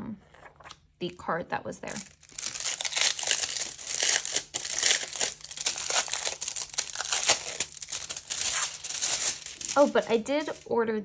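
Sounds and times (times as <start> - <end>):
packaging crinkling and rustling: 1.9 - 10.7.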